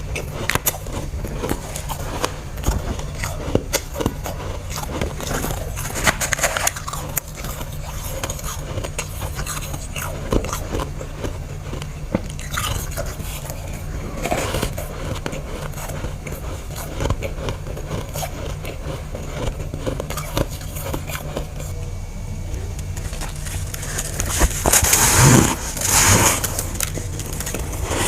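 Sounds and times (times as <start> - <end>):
frost crunches: 0.0 - 21.7, 22.9 - 28.0
freezer frost crackling and scraping: 0.0 - 28.0
steady low hum: 0.0 - 28.0.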